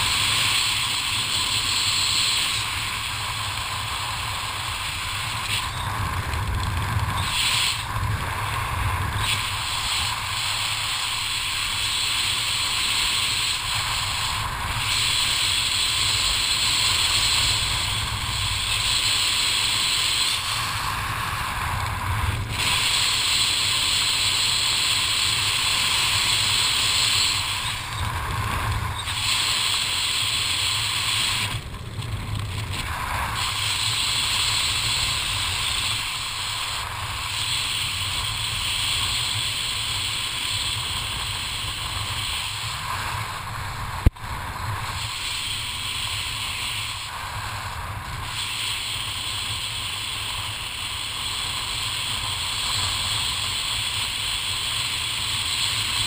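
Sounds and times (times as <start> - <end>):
wind rushing over microphone: 0.0 - 49.2.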